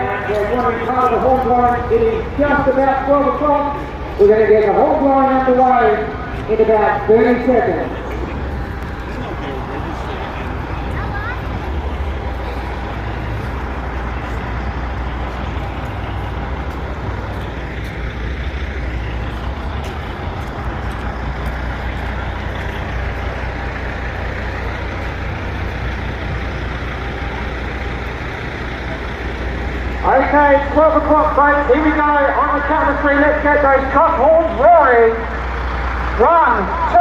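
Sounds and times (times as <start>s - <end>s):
truck engines idling: 0.0s - 37.0s.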